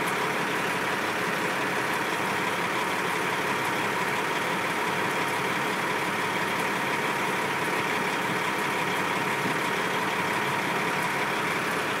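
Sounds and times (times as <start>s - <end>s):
motor vehicle engine running: 0.0s - 12.0s
road noise: 0.0s - 12.0s.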